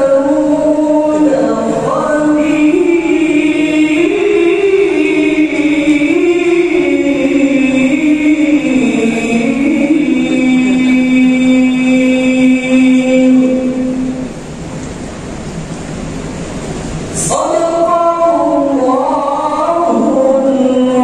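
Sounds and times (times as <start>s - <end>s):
crowd singing over loudspeakers: 0.0s - 14.4s, 17.1s - 21.0s.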